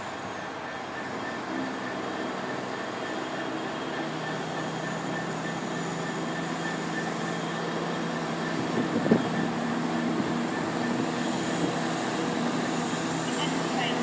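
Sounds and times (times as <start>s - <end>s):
train engine hum with whine: 0.0s - 14.0s.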